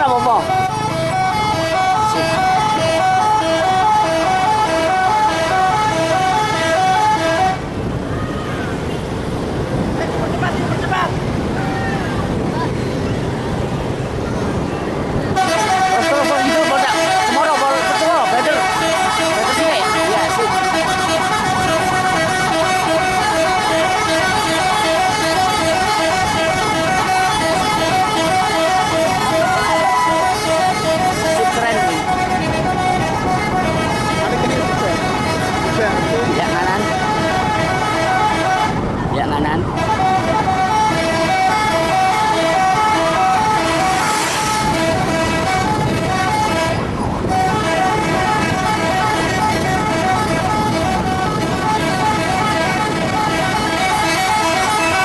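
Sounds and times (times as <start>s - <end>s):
musical bus horn tune: 0.0s - 7.8s, 15.2s - 39.0s, 39.6s - 55.0s.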